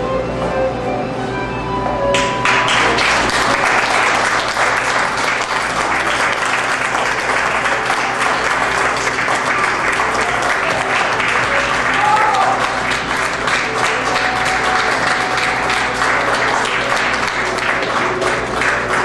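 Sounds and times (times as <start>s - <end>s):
audience applauding: 2.1s - 19.0s.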